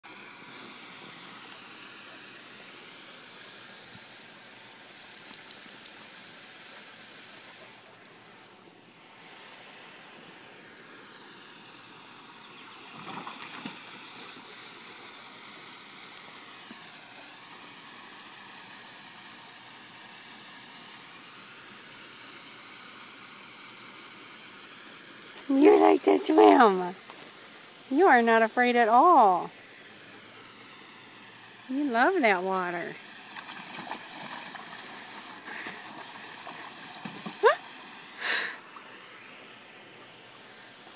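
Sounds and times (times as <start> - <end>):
hose water flowing into pool: 0.0 - 40.9.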